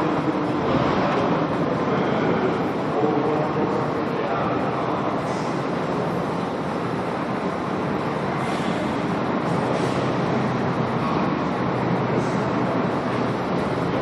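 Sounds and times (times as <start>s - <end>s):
subway train idling hum: 0.0s - 14.0s.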